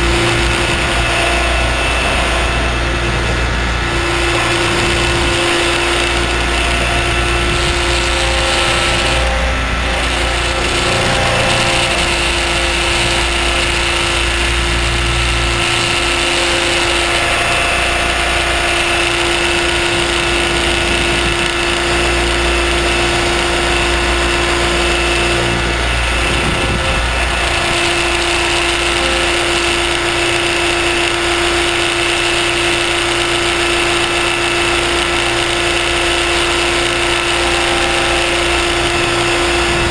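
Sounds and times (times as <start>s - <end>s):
motor and gear whine: 0.0s - 39.9s
rotors whirring: 0.0s - 39.9s.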